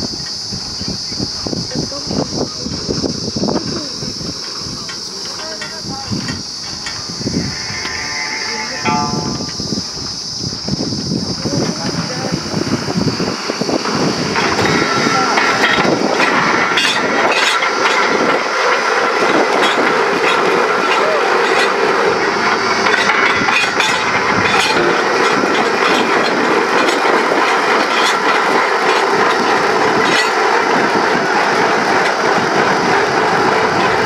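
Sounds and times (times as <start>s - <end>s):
drilling rig running: 0.0s - 34.0s
metallic clatter: 3.7s - 10.4s, 13.2s - 34.0s.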